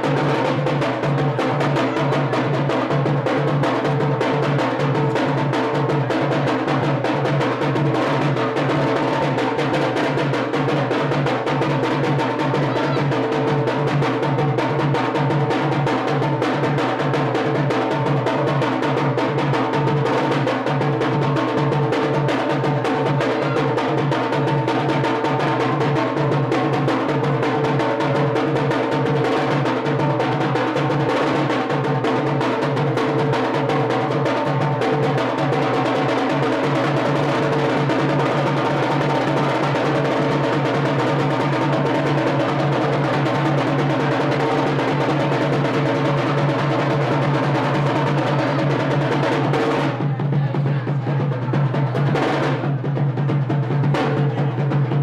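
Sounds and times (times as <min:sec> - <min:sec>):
fast drumming on large drum: 0:00.0 - 0:55.0
small drum beats: 0:00.0 - 0:55.0.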